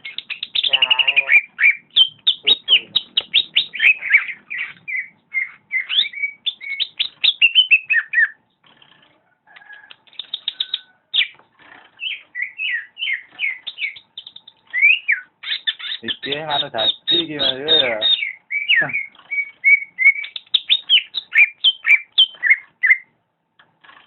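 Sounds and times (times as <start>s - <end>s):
bird singing chirps and whistles: 0.0s - 8.4s, 12.0s - 23.1s.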